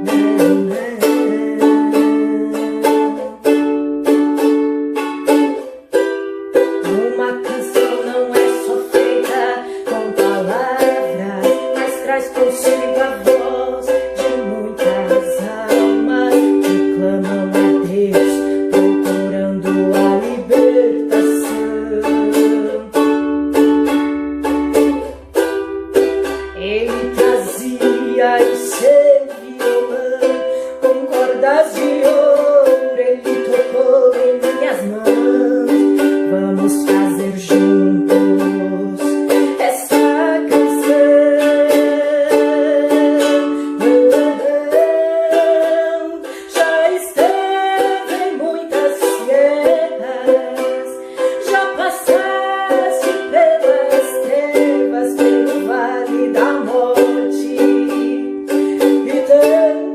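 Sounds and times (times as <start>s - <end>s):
ukulele strumming: 0.0s - 59.9s.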